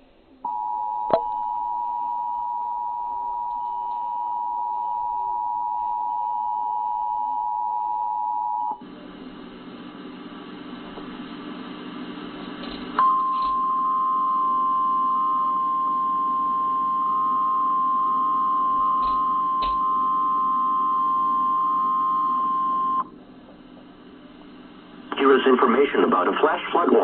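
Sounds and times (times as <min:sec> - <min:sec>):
low hum: 0:00.4 - 0:25.2.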